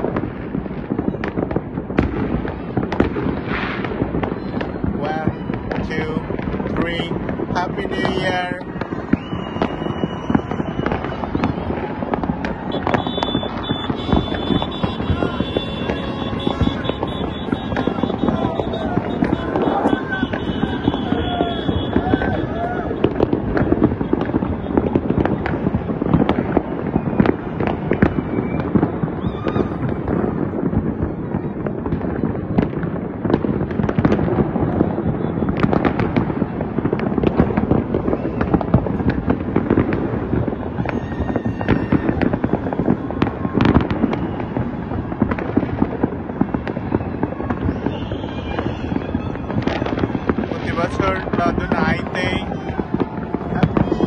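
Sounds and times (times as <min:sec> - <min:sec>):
fireworks crackling: 0:00.0 - 0:54.0
loud fireworks bangs: 0:00.0 - 0:54.0.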